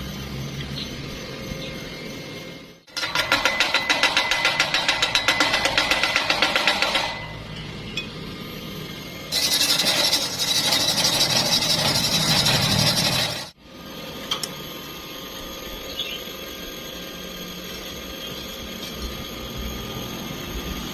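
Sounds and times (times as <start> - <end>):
steady machine hum: 0.0 - 20.9.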